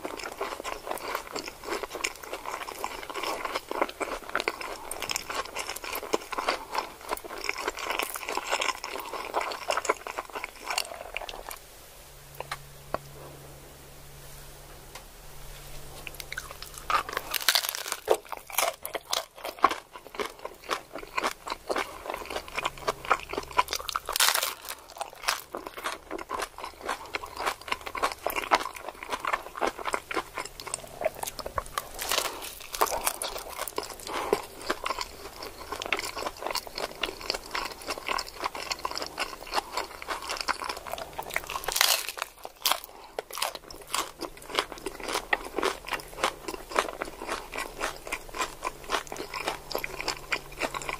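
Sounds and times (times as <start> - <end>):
crunching and chewing taco: 0.0 - 11.6, 15.8 - 50.9.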